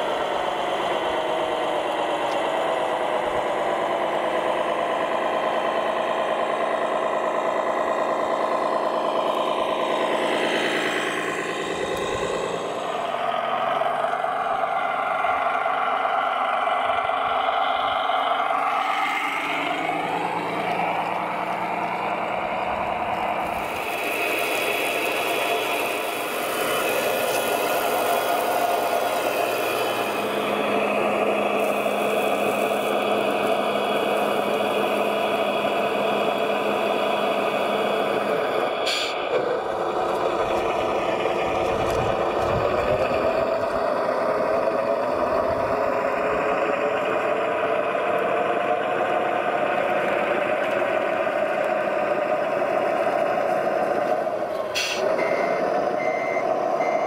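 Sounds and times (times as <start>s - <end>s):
model trucks engine-like running: 0.0s - 57.0s.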